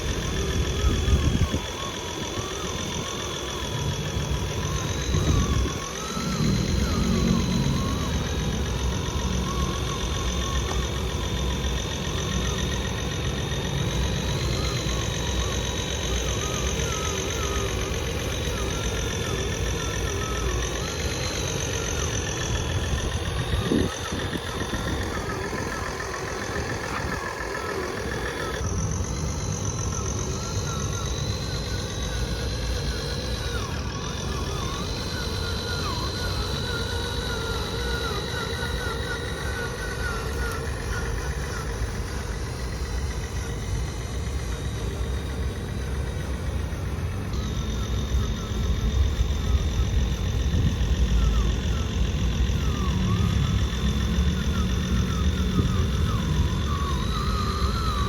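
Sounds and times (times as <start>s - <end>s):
toy vehicle motor rumble and whine: 0.0s - 58.0s.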